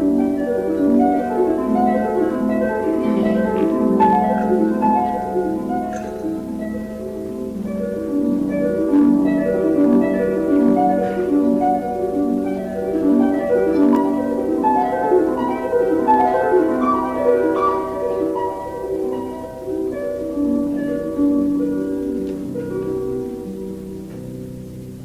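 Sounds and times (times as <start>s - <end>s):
harp-like plucked music: 0.0s - 25.0s.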